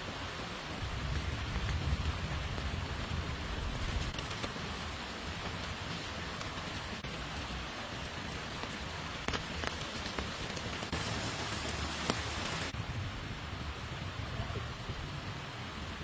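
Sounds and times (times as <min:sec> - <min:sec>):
close raindrops striking: 0:00.0 - 0:16.0
steady rain falling: 0:00.0 - 0:16.0.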